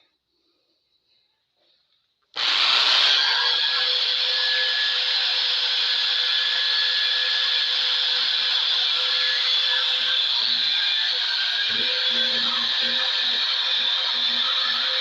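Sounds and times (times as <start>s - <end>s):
power tool whirring: 2.4s - 15.0s.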